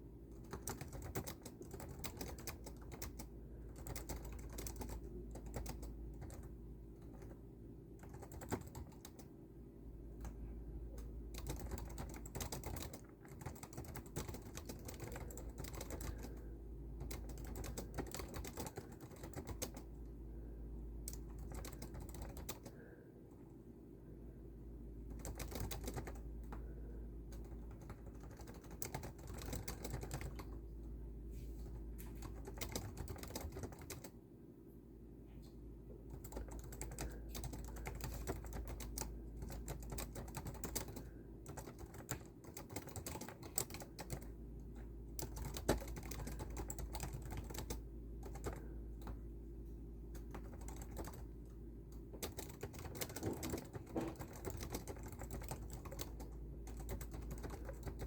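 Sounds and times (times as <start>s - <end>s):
computer keyboard typing: 0.0s - 9.4s, 10.1s - 20.1s, 21.0s - 23.0s, 25.0s - 30.6s, 31.6s - 34.2s, 36.0s - 49.3s, 50.1s - 58.0s
steady low hum: 0.0s - 58.0s.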